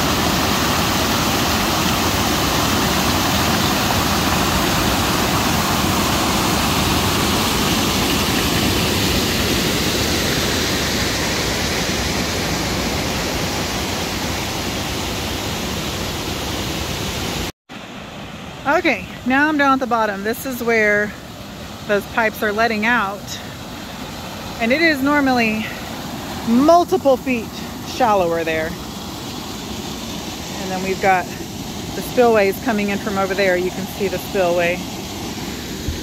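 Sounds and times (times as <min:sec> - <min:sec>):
water rushing out: 0:00.0 - 0:36.0.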